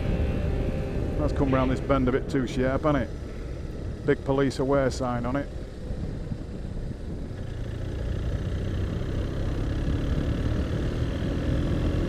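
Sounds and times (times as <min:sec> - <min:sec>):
motorcycle engine running: 0:00.0 - 0:12.0
wind and road rush: 0:00.0 - 0:12.0.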